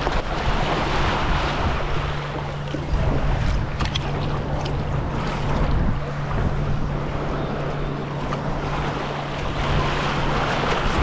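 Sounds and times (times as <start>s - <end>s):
paddle blades splashing: 0.0s - 11.0s
small surf waves: 0.0s - 11.0s
steady low hum: 0.0s - 11.0s
wind buffeting microphone: 0.0s - 11.0s.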